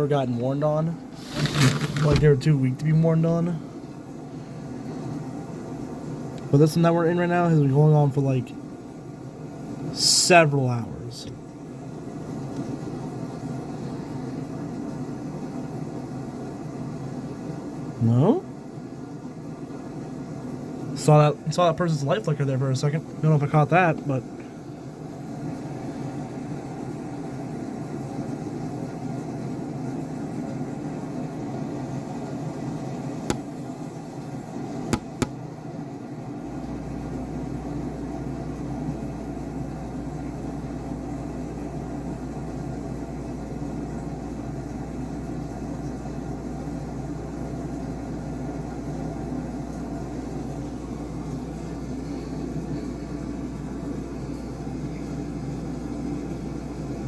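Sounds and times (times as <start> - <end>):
machine hum and rumble: 0.0 - 57.0.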